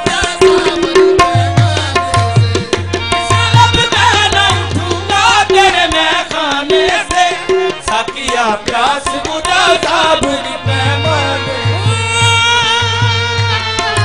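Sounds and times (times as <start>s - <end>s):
tabla rhythm: 0.0s - 14.0s.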